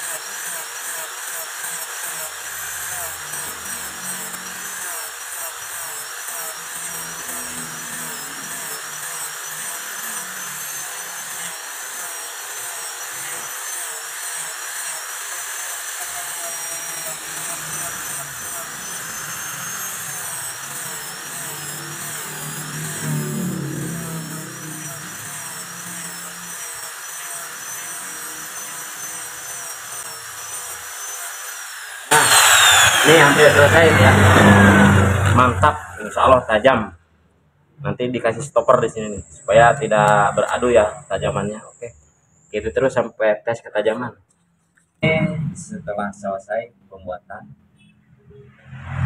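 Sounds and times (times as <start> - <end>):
angle grinder grinding steel: 0.0 - 36.7, 38.8 - 42.7.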